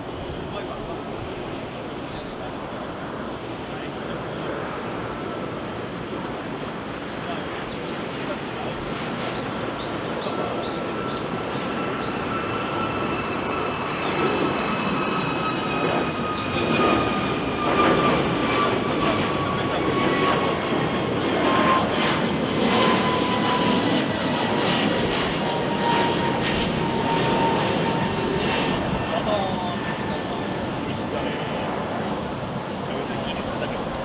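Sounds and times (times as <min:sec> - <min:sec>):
jet engines at take-off: 0:00.0 - 0:34.0.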